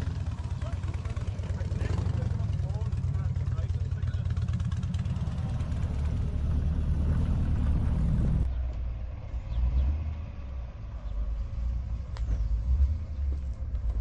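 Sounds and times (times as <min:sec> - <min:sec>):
car engine exhaust rumble: 0:00.0 - 0:14.0.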